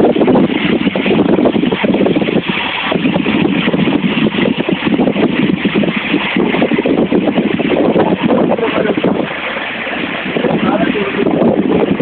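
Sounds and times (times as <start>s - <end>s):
waterfall rushing onto rocks: 0.0s - 12.0s.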